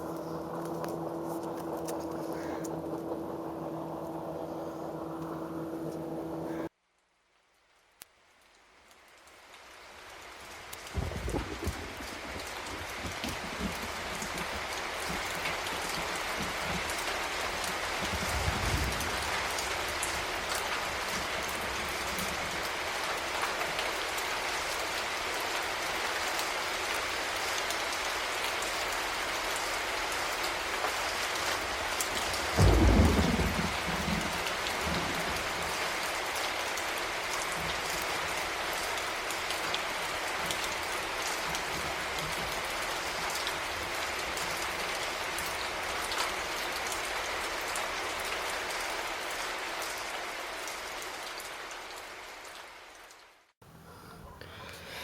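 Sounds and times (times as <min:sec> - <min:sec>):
rain hissing: 0:00.0 - 0:06.7, 0:07.6 - 0:55.0.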